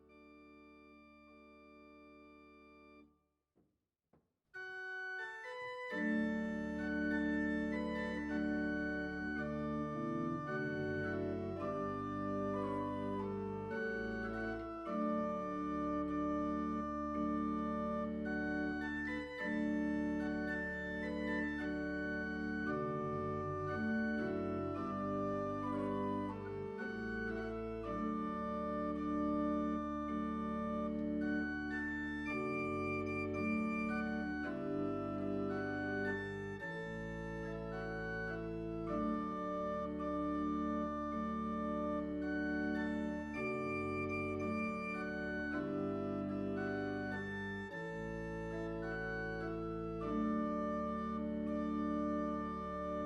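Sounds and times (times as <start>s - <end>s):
held organ chords: 0.0s - 3.1s, 4.6s - 53.0s.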